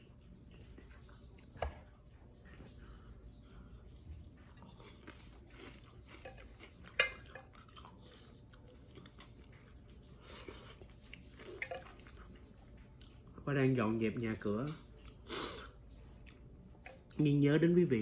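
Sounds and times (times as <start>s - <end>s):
chewing crispy fried food: 0.1s - 13.4s, 14.7s - 17.2s.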